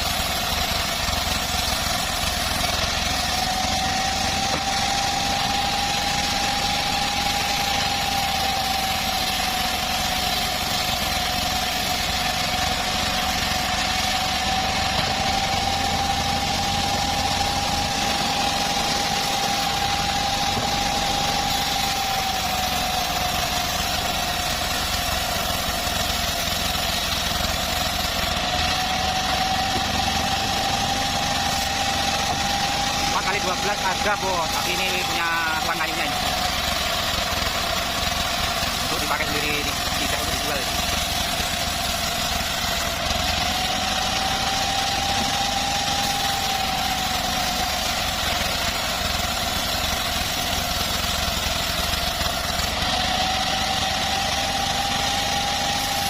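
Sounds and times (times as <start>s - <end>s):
bandsaw sawmill engine running: 0.0s - 56.0s.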